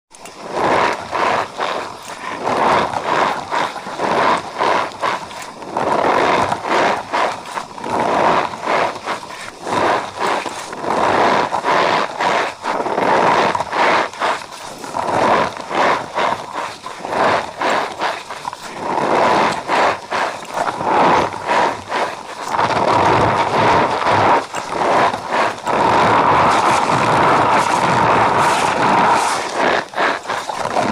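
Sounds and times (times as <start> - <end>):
cornstarch squeaking and crunching: 0.4 - 30.9.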